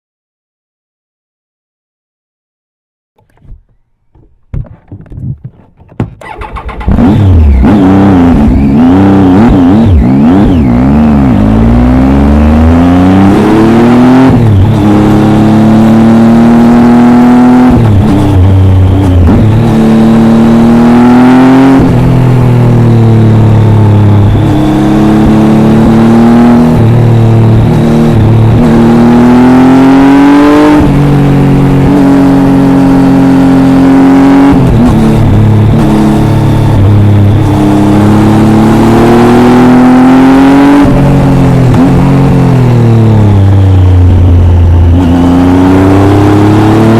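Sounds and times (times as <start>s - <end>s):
motorcycle engine accelerating: 6.2s - 46.9s.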